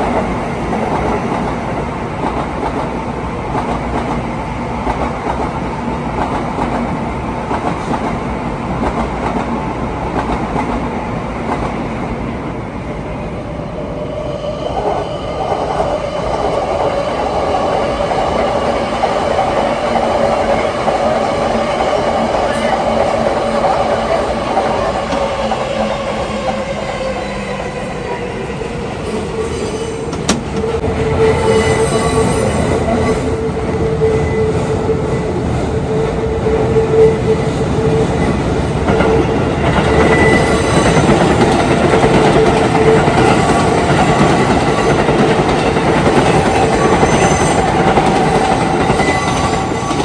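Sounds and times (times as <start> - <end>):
train wheel noise and rail clatter: 0.0 - 50.0.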